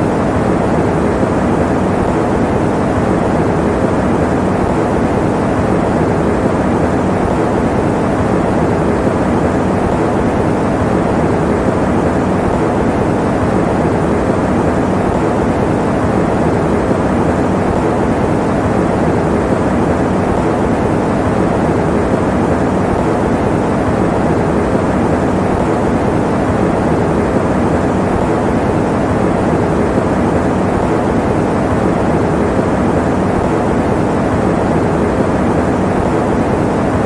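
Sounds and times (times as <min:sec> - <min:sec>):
electric fan running: 0:00.0 - 0:37.0.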